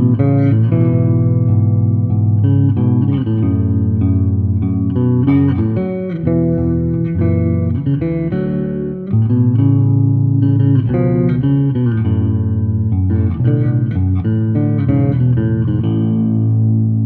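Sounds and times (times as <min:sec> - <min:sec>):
solo bass guitar: 0:00.0 - 0:17.0.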